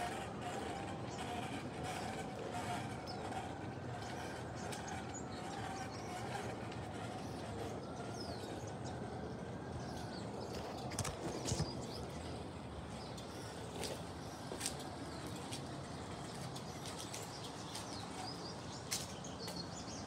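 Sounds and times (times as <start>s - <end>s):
model trains rumbling on track: 0.0s - 20.0s
wheels clicking over rail joints: 0.0s - 20.0s.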